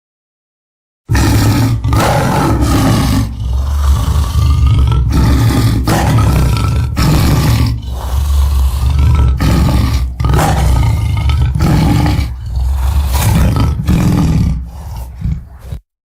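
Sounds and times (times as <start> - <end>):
deep dinosaur roars: 1.1 - 15.8.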